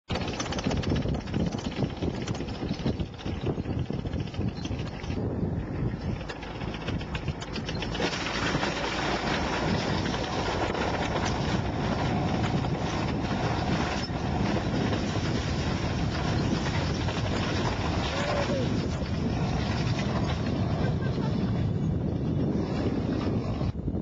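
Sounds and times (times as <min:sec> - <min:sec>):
tank engine running: 0:00.1 - 0:24.0.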